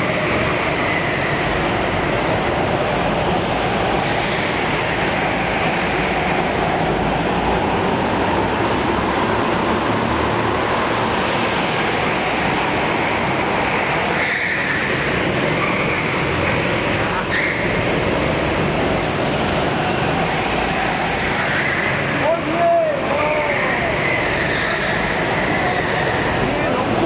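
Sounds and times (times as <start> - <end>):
go-kart engines racing: 0.0 - 27.0.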